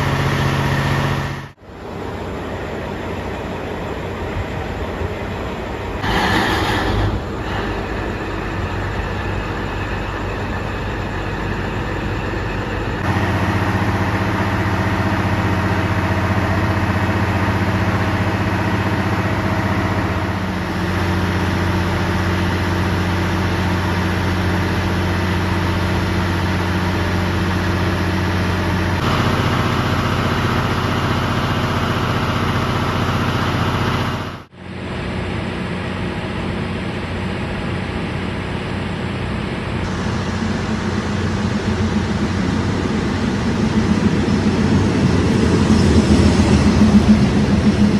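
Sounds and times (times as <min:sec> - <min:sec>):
diesel train engine idling: 0:00.0 - 0:47.9.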